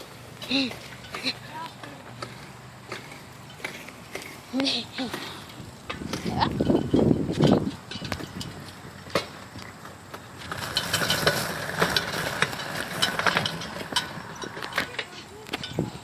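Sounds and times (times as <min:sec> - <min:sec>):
bike chain rattling and clicking: 0:00.0 - 0:16.0.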